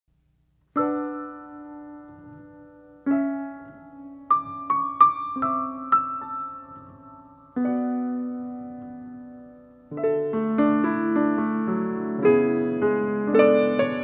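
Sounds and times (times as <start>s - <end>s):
piano music: 0.7s - 14.0s.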